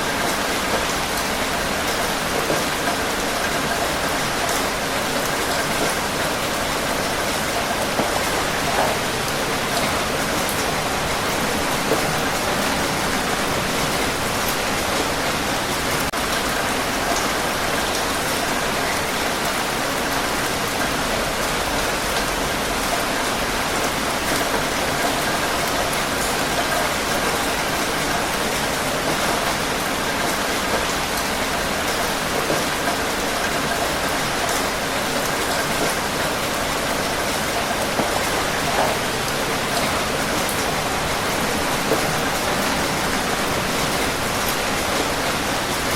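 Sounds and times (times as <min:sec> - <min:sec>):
heavy rain: 0:00.0 - 0:45.9
raindrops pattering: 0:00.0 - 0:45.9.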